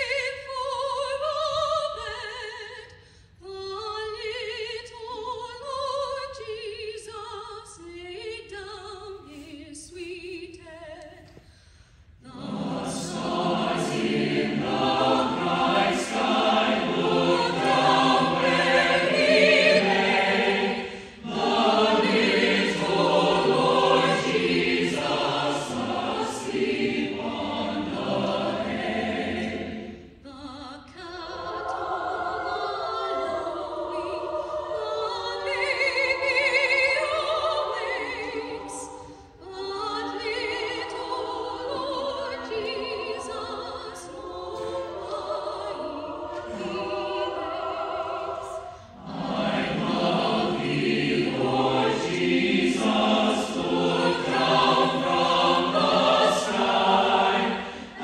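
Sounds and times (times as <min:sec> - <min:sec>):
choir singing: 0:00.0 - 0:02.8, 0:12.2 - 0:58.0.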